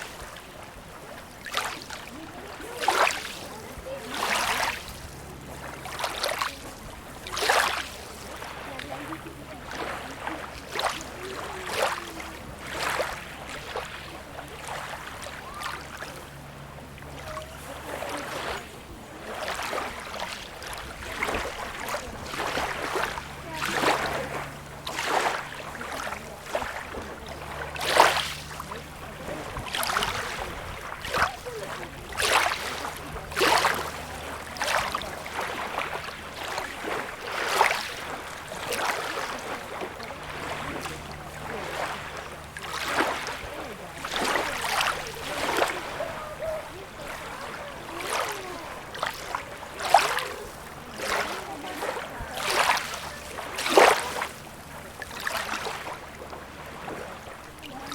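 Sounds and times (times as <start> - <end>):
small waves lapping and splashing: 0.0 - 57.9.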